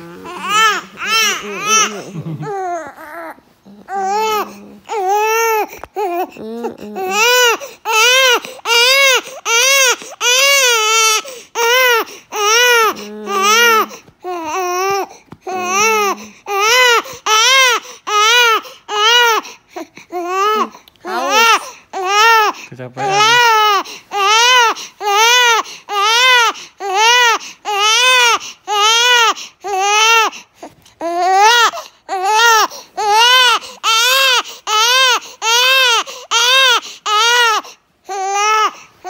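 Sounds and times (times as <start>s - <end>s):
baby crying: 0.0s - 38.9s.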